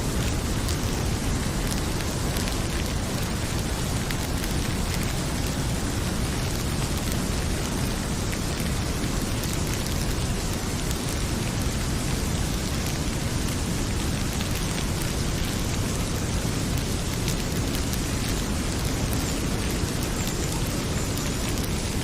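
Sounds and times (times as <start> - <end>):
faint wood fire crackling: 0.0 - 22.0
heavy rain pouring: 0.0 - 22.0.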